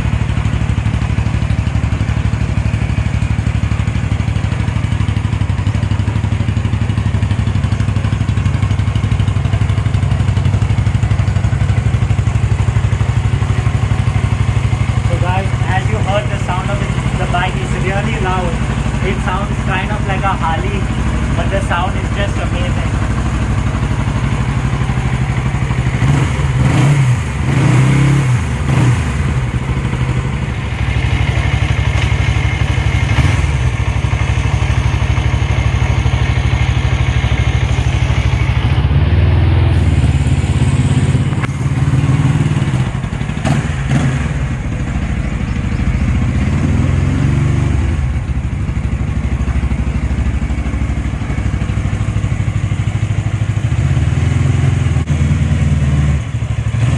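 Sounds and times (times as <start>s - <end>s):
motorcycle engine idling: 0.0s - 56.9s
engine throttle blips: 9.0s - 56.9s.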